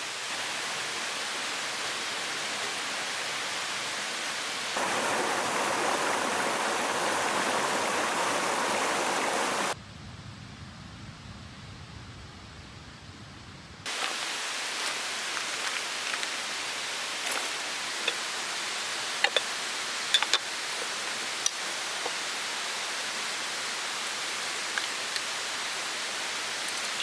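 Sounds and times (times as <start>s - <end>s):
stream water rushing: 0.0s - 9.8s, 13.9s - 27.0s.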